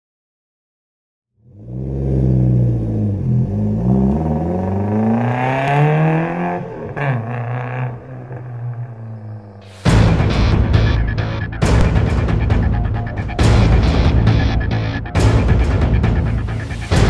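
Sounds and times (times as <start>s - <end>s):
engine revving: 1.4s - 17.0s.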